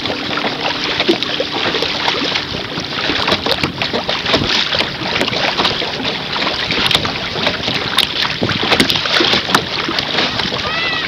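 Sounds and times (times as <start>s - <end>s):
water splashing against a hull: 0.0s - 11.0s
wind on microphone: 0.0s - 11.0s.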